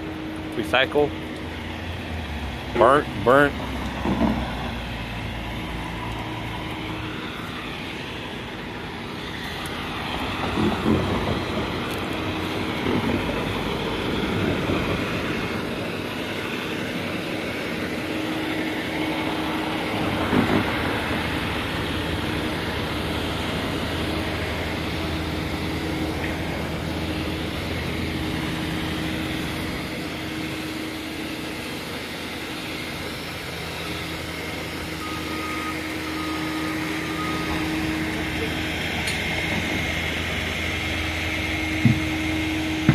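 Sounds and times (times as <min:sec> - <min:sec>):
diesel truck engines idling: 0:00.0 - 0:42.9.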